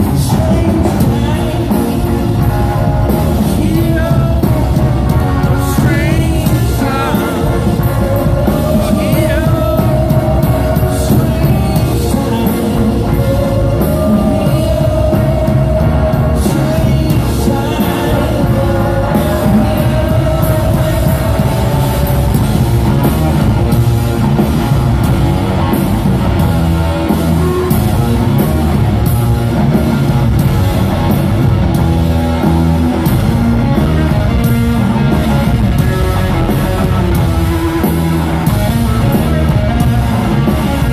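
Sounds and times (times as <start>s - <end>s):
distorted electric guitar: 0.0s - 40.9s
drum kit with cymbals: 0.0s - 40.9s.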